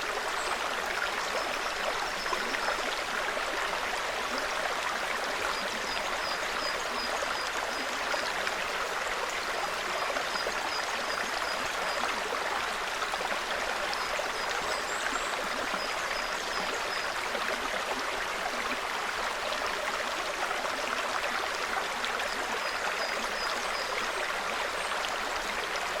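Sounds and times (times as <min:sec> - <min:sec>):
stream babbling over rocks: 0:00.0 - 0:26.0.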